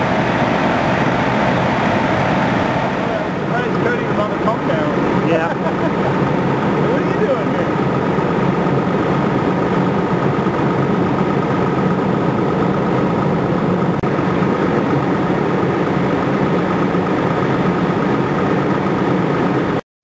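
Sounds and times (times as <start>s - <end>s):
diesel engine idling: 0.0s - 19.8s.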